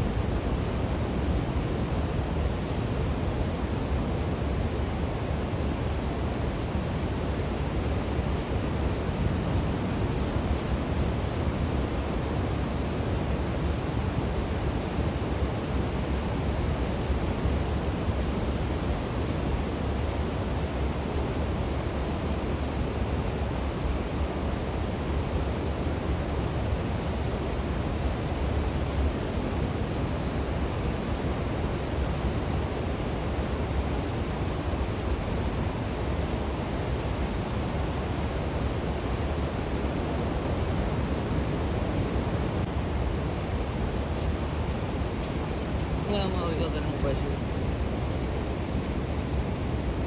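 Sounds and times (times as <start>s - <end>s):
wind rumble on microphone: 0.0s - 50.0s.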